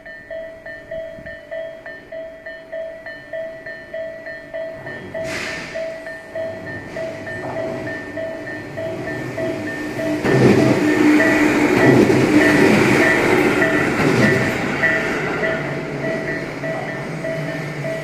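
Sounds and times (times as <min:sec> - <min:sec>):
level crossing warning bell: 0:00.0 - 0:18.0
train rumble: 0:00.0 - 0:18.0.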